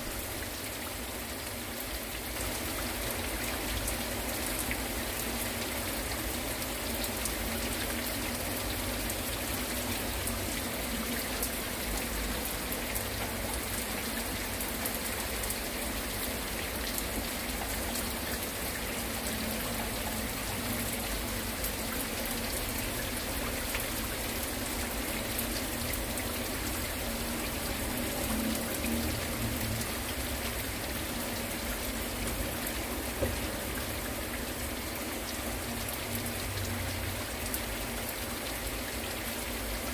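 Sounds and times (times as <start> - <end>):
heavy rain falling: 0.0 - 39.9
water running and trickling: 0.0 - 39.9.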